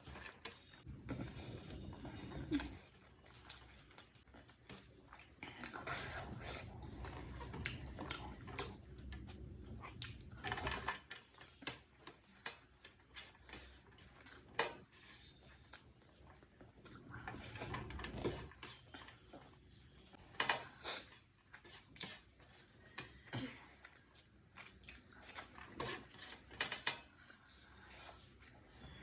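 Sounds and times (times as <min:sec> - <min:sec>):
close-miked chewing: 0:00.0 - 0:29.0.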